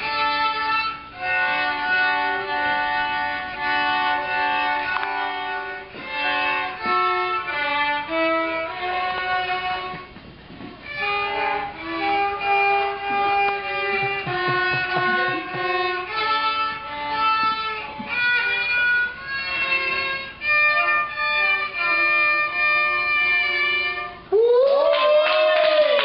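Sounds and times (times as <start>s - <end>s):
violin playing slow melody: 0.0s - 24.3s.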